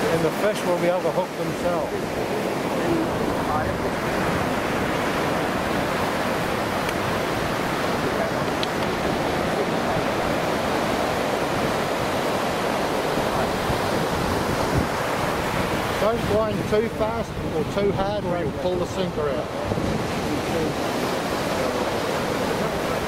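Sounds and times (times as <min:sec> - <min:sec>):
surf breaking on sandy beach: 0:00.0 - 0:23.0.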